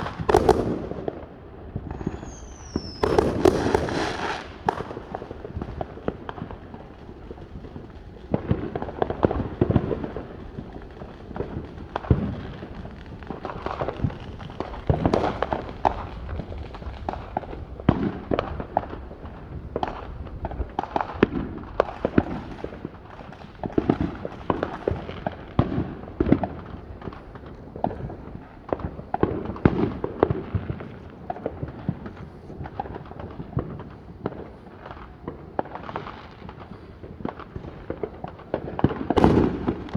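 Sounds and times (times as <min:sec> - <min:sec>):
deep firework booms: 0:00.0 - 0:39.9
fireworks bangs and crackling pops: 0:00.0 - 0:39.9.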